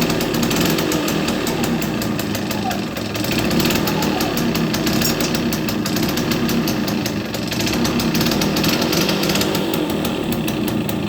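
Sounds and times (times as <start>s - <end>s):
small engine revving: 0.0s - 11.0s.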